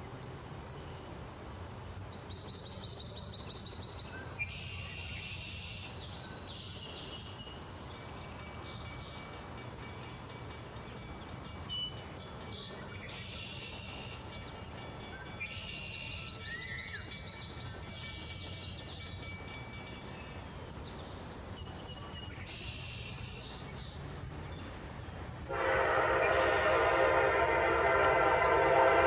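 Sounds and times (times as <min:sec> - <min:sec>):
birds chirping: 0:01.8 - 0:29.0.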